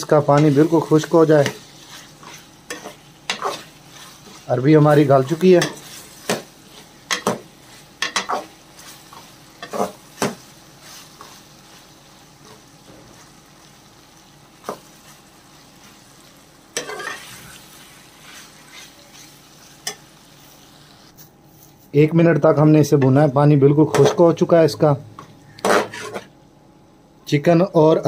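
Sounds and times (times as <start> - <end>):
faint sizzle: 0.0 - 28.0.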